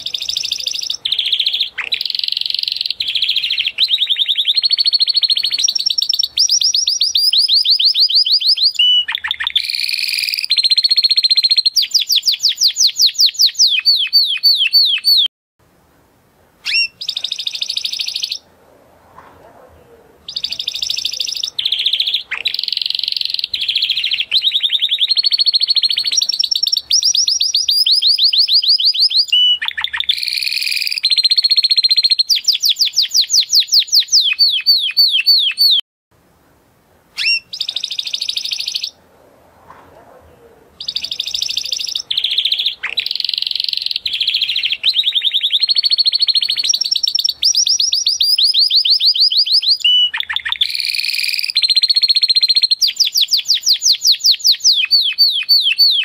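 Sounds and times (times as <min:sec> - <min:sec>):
canary singing trills: 0:00.0 - 0:15.3, 0:16.6 - 0:18.5, 0:19.8 - 0:35.8, 0:37.2 - 0:39.0, 0:40.4 - 0:56.0.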